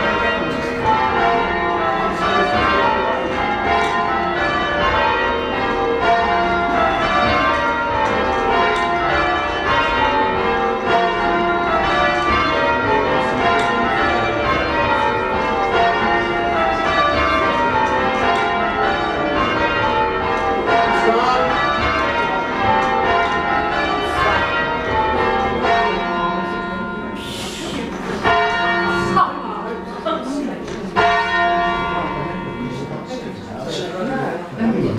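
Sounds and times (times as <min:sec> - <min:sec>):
church bells change ringing: 0:00.0 - 0:34.2.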